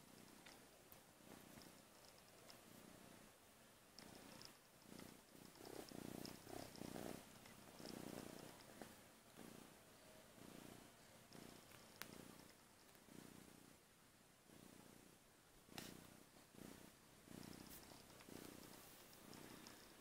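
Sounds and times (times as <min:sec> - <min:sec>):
kitten purring: 0:00.0 - 0:20.0.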